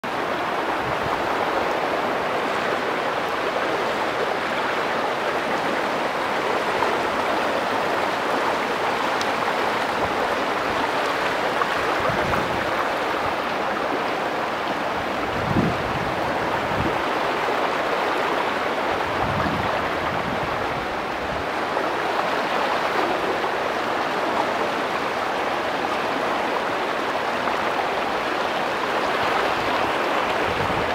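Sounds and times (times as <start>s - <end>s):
floodwater rushing: 0.0s - 30.9s.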